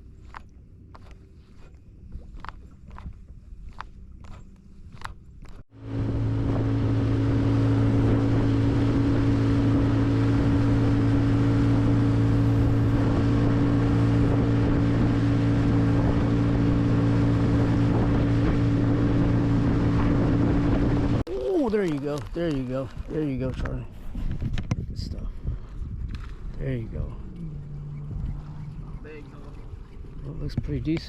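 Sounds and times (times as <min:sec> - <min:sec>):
boat motor running: 0:00.0 - 0:31.0
wind and water rushing: 0:05.7 - 0:31.0.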